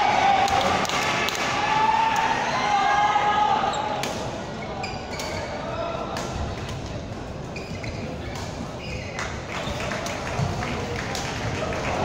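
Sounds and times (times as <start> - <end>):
murmur of voices: 0.0 - 12.0.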